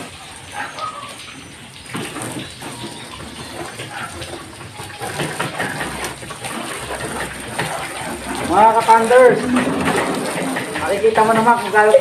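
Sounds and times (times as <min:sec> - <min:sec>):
hose water splashing: 0:00.0 - 0:12.0
rag scrubbing truck: 0:01.8 - 0:12.0.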